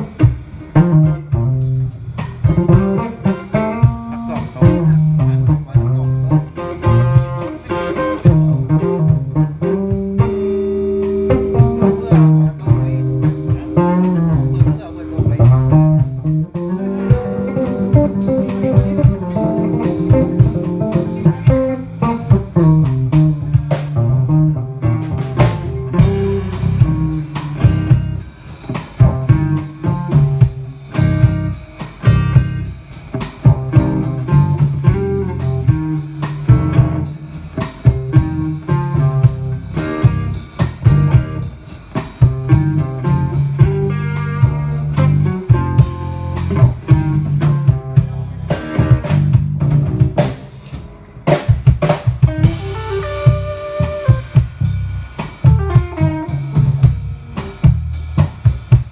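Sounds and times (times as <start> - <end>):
drum kit hits: 0.0 - 58.9
electric bass line: 0.0 - 58.9
electric guitar: 0.0 - 58.9.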